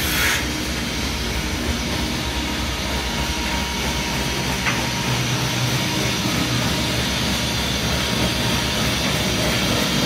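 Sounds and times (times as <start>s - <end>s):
workshop machinery rumbling: 0.0s - 10.0s.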